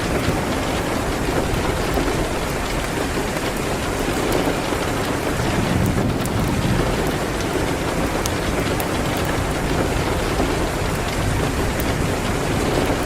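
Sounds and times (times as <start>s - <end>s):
heavy rain on a window: 0.0s - 13.0s.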